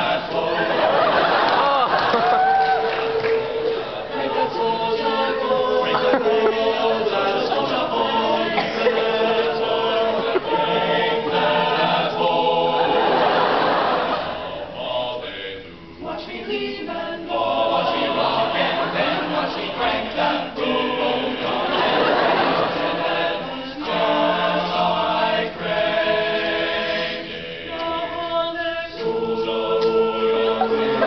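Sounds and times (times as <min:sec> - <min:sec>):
a cappella ensemble singing: 0:00.0 - 0:31.0.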